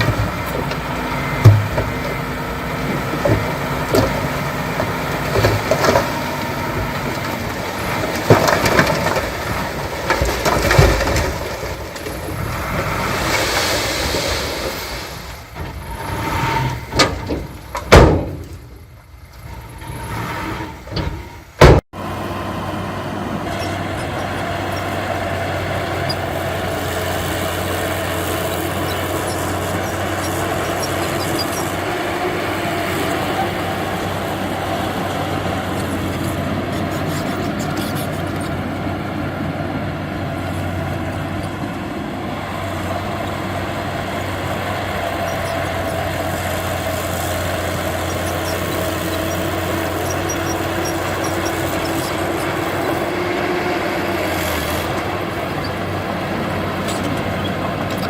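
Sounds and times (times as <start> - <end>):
diesel machine running: 0.0 - 58.0.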